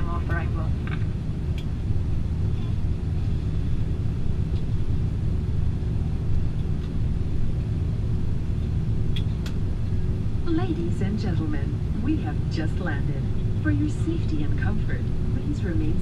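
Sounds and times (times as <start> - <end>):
aircraft cabin rumble while taxiing: 0.0 - 16.0
faint steady hum: 0.0 - 16.0.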